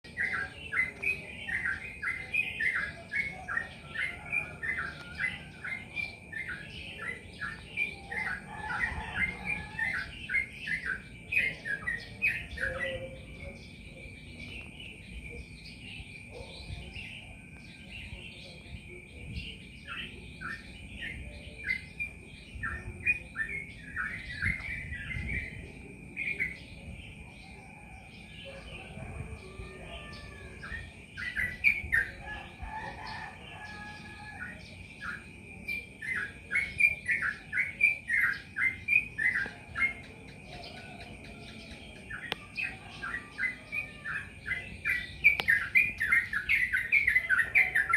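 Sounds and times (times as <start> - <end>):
bulbul singing: 0.0 - 47.9.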